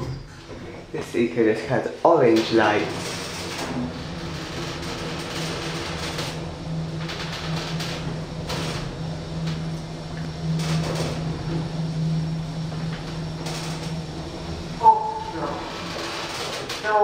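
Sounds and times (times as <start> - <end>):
lift running with low hum: 0.0 - 17.0.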